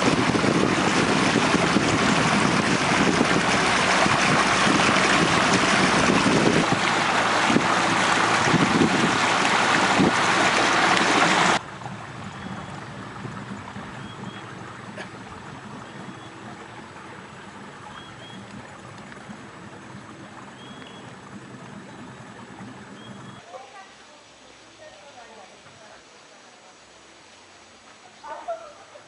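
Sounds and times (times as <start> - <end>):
boat motor running: 0.0 - 23.4
outdoor hum: 0.0 - 23.4
rushing wind and water: 0.0 - 23.5.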